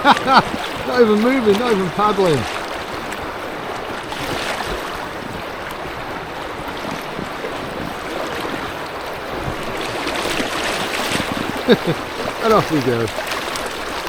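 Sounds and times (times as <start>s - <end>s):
river rapid rushing: 0.0s - 14.0s.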